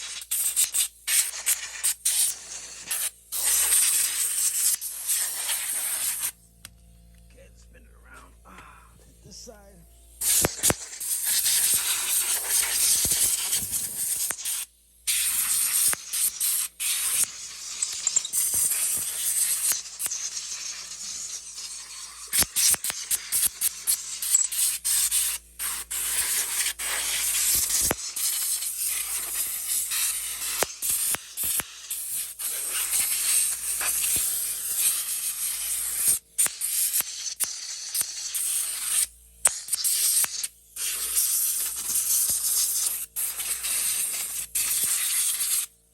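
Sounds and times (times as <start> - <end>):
compressed air hissing from blow gun: 0.0 - 6.4, 10.2 - 45.8.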